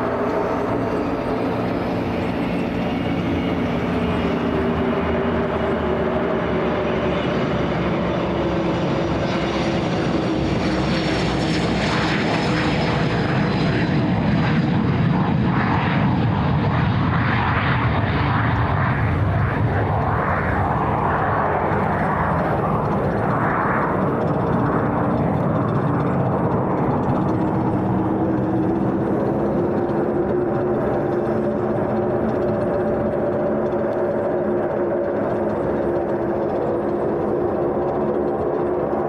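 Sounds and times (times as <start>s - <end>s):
jet engines at takeoff: 0.0s - 39.0s.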